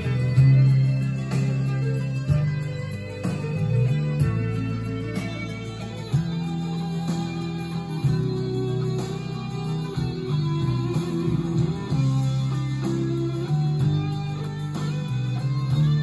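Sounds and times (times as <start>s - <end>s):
guitar-led instrumental rock music: 0.0s - 16.0s.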